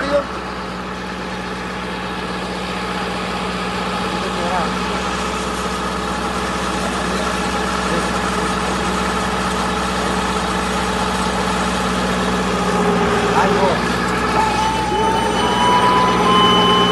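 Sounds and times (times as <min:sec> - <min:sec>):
baling machine humming: 0:00.0 - 0:16.9.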